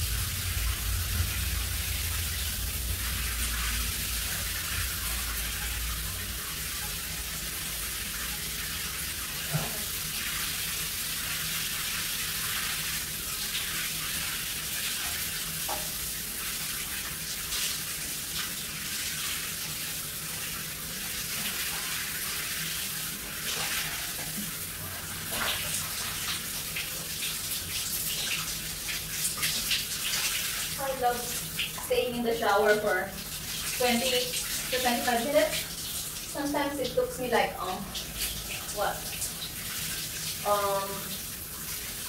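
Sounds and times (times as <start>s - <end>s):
shower water hissing: 0.0s - 42.0s
water splashes: 0.0s - 42.0s.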